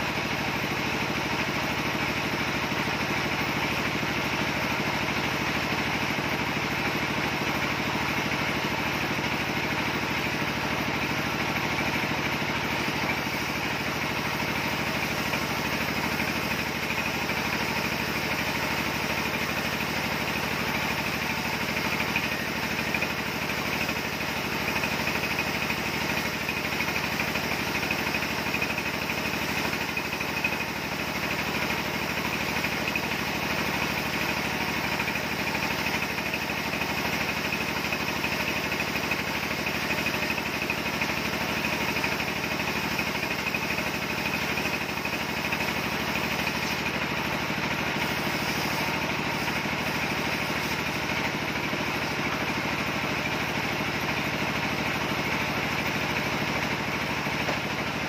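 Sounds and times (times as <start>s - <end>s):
sawmill saw cutting log: 0.1s - 58.0s.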